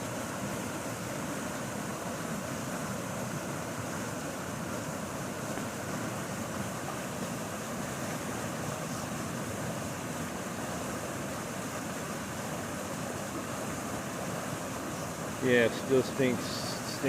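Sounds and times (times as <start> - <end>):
creek rushing over rapids: 0.0 - 17.0.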